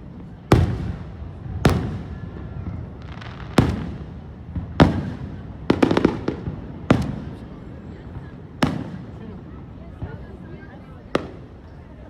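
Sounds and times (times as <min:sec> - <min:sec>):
fireworks booming with echo: 0:00.0 - 0:10.4, 0:11.0 - 0:12.0.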